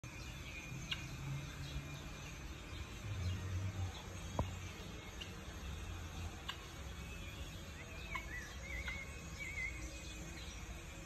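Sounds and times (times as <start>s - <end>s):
faint high chirps: 0.0s - 11.0s
low steady hum: 0.0s - 11.0s.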